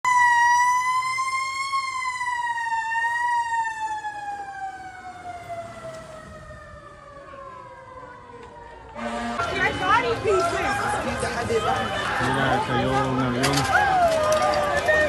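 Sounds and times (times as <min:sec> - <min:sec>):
emergency vehicle siren: 0:00.0 - 0:15.0.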